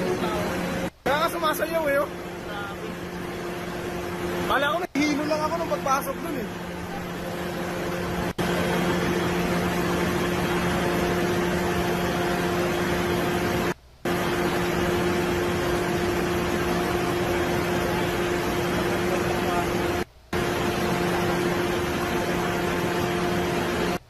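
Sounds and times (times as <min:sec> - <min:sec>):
constant low hum: 0:00.0 - 0:24.0.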